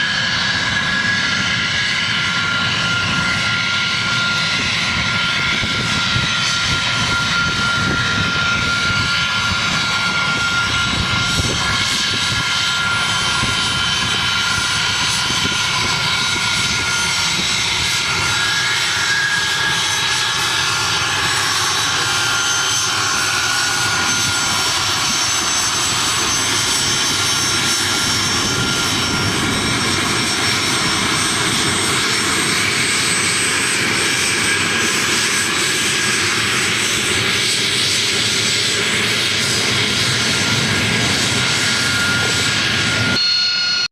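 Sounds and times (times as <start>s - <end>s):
jet engines whining: 0.0s - 43.9s
rushing jet roar: 0.0s - 43.9s.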